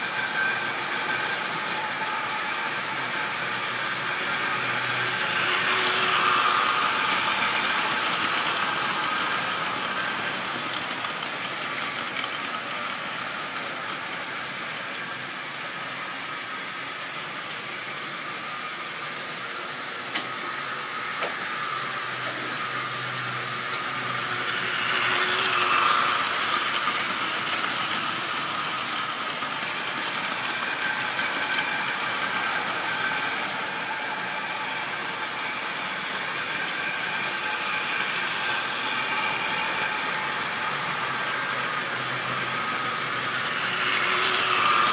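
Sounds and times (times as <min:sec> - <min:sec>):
model train running on track: 0:00.0 - 0:44.9.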